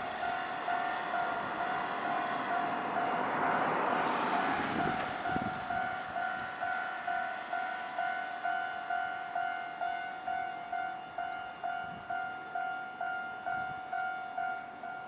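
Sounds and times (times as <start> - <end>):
level-crossing warning bell: 0.0 - 15.0
train passing: 0.0 - 15.0.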